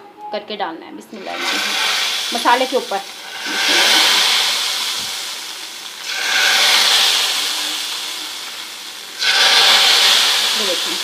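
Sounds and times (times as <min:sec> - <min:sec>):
hot ghee sizzling: 0:01.1 - 0:11.0.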